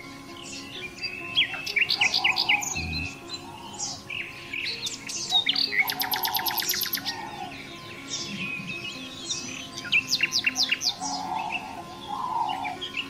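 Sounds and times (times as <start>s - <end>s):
soft background music: 0.0s - 13.0s
songbirds chirping: 0.0s - 13.0s
fast bird trill: 0.5s - 4.0s, 4.6s - 13.0s.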